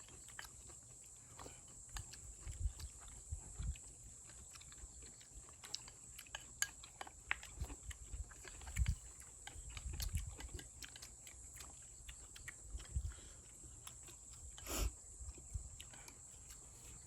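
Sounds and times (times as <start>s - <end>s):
people chewing and slurping: 0.0s - 17.0s.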